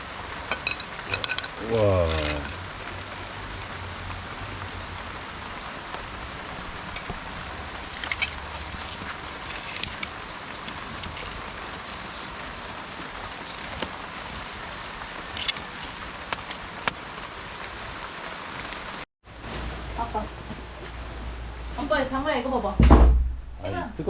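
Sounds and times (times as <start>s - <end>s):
steady rain falling: 0.0s - 22.8s.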